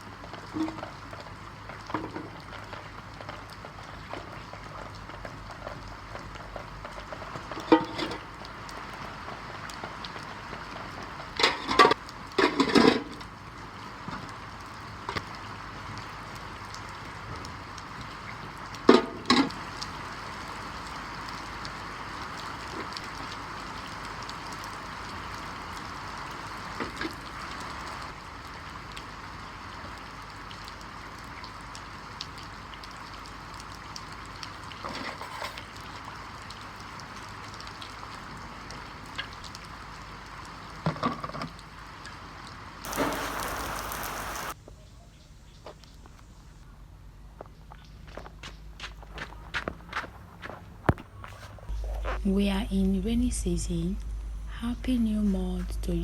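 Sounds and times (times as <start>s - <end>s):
rain falling: 0.0s - 44.6s, 51.7s - 56.0s.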